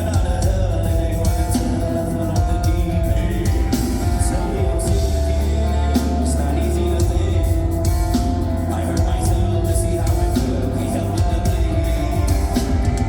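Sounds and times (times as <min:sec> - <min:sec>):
bass line: 0:00.0 - 0:13.0
drum and cymbal hits: 0:00.0 - 0:13.0
held guitar notes: 0:00.0 - 0:13.0.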